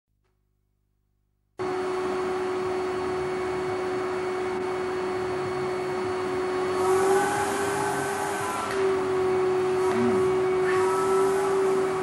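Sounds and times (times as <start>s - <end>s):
vacuum cleaner running: 1.6s - 12.0s.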